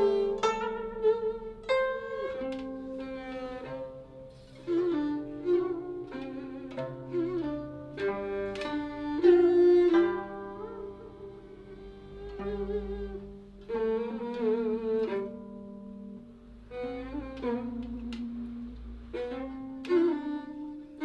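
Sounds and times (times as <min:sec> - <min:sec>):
bowed fiddle melody: 0:00.0 - 0:21.0
plucked zither notes: 0:00.0 - 0:21.0.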